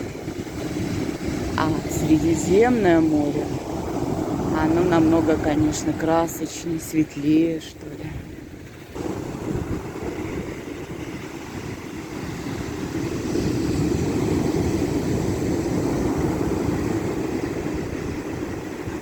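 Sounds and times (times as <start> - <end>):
sea surf washing: 0.0 - 19.0
wind buffeting microphone: 0.0 - 19.0.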